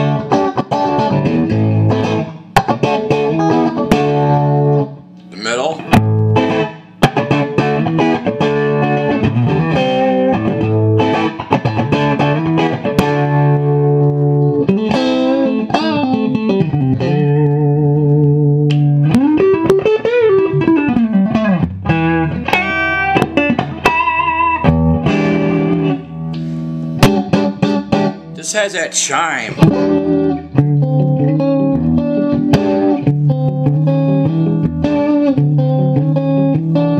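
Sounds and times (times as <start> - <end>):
electric guitar playing: 0.0 - 36.9.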